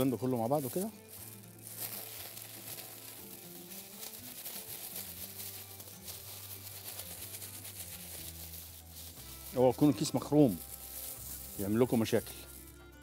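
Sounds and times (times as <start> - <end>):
faint background music: 0.0 - 13.0
plastic bag crinkling: 0.0 - 13.0.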